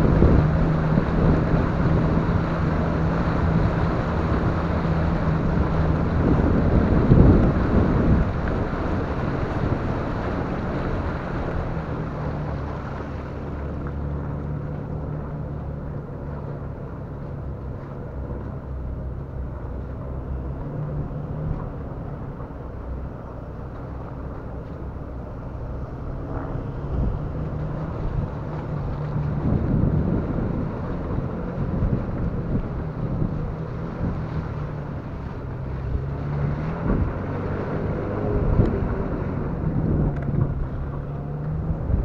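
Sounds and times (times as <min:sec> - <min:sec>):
vehicle engine running: 0:00.0 - 0:42.0
water churning: 0:00.0 - 0:42.0
wind buffeting microphone: 0:00.0 - 0:42.0.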